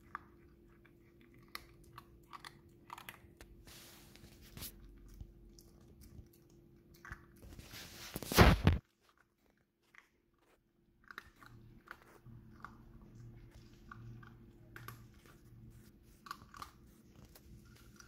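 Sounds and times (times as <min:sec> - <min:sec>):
puppy crunching kibble: 0:00.0 - 0:18.0.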